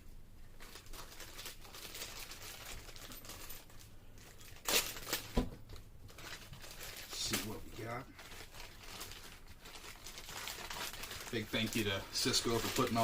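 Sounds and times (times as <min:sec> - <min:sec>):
packaging bag crinkling: 0:00.5 - 0:13.0.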